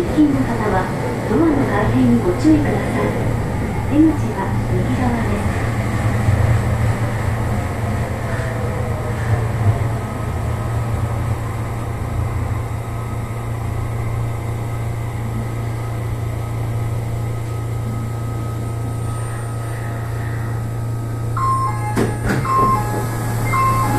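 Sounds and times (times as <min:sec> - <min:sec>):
subway train running and slowing: 0:00.0 - 0:23.9.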